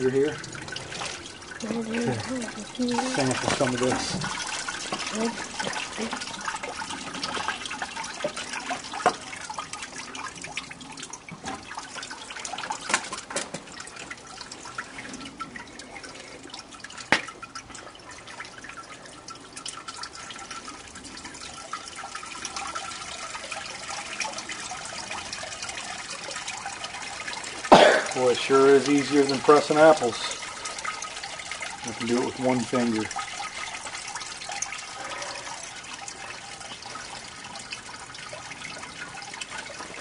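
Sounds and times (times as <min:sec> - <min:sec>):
liquid trickling into bucket: 0:00.0 - 0:40.0.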